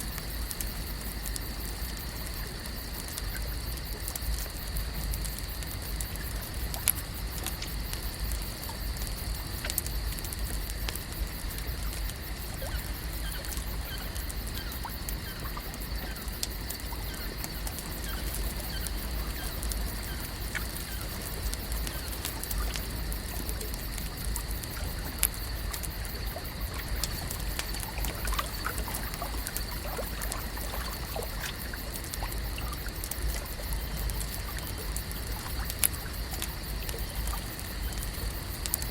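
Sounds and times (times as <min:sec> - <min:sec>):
small clicks and ticks: 0:00.0 - 0:38.9
water trickling and lapping: 0:00.0 - 0:38.9.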